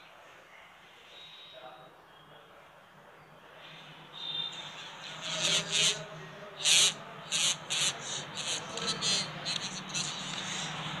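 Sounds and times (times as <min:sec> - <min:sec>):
hissy crackly speaker playback: 0:00.0 - 0:11.0.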